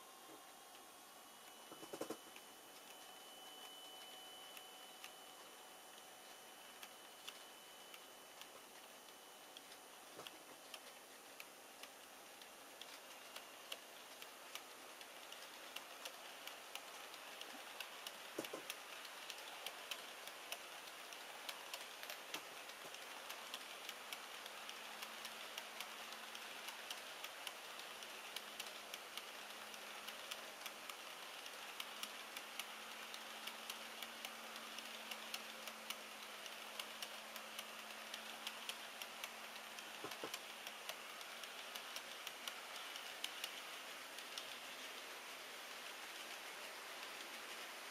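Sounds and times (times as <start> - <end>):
model train wheels clicking on rails: 0.0 - 47.9.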